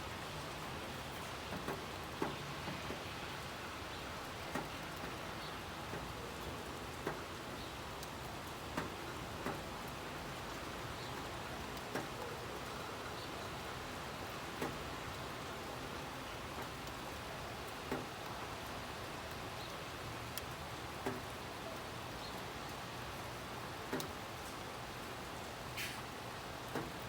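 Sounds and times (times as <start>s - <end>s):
rain hiss: 0.0s - 27.0s
raindrops ticking: 1.0s - 27.0s.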